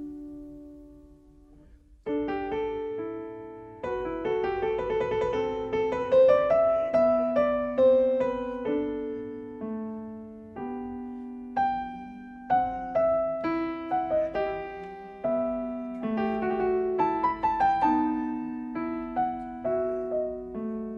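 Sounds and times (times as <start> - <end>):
slow background piano music: 0.0 - 20.9.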